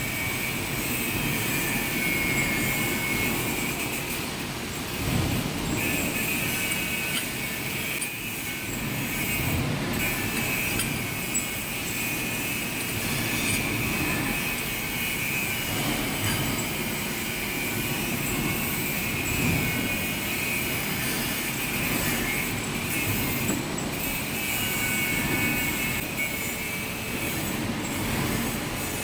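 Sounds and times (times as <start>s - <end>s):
lathe running: 0.0s - 29.0s.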